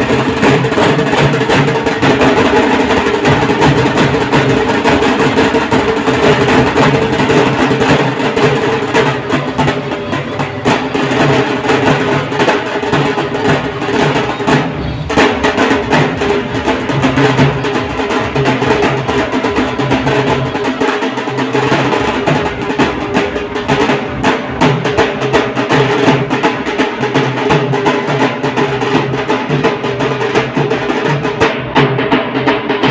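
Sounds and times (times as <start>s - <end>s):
drums in fast rhythm: 0.0s - 32.9s.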